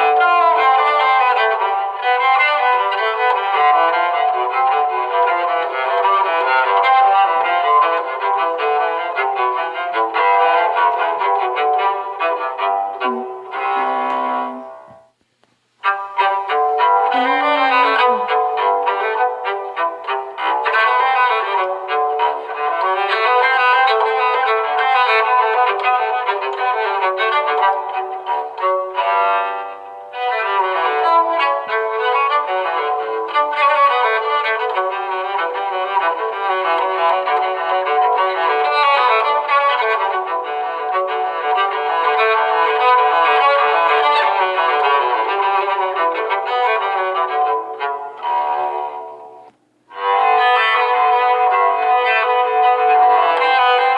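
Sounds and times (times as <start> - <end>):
music: 0.0 - 53.9.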